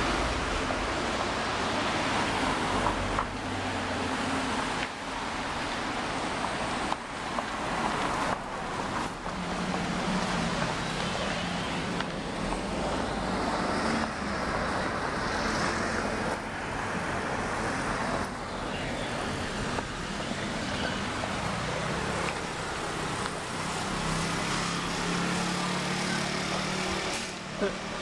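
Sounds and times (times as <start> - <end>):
passing cars on city street: 0.0 - 28.0.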